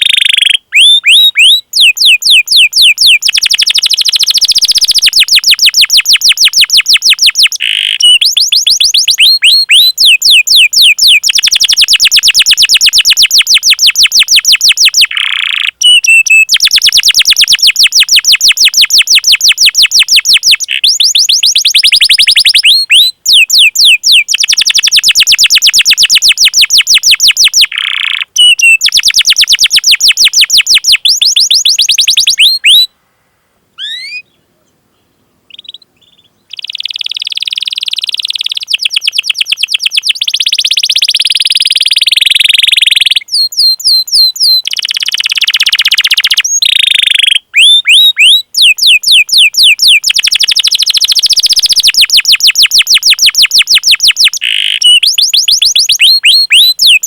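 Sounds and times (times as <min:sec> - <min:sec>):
canary singing trills: 0:00.0 - 0:32.9, 0:33.8 - 0:57.0.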